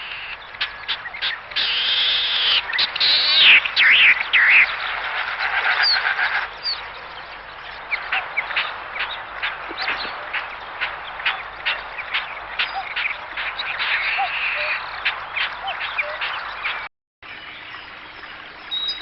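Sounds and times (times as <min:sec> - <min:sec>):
bird chirping and calling: 0:00.0 - 0:16.9.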